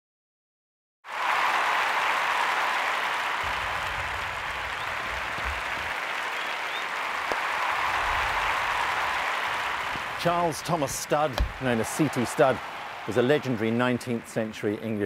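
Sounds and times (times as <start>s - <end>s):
crowd applauding: 1.1s - 15.0s.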